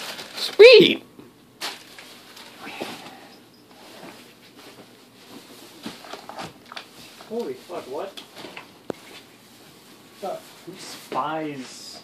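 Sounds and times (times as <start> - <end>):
plastic packaging rustling: 0.0 - 0.8, 1.6 - 3.2, 3.9 - 11.6.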